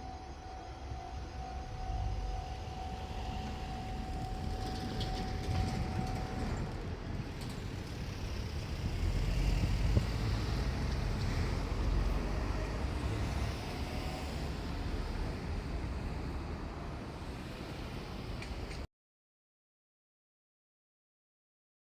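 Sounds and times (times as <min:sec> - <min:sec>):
passing vehicle engine rumble: 0:01.0 - 0:18.9.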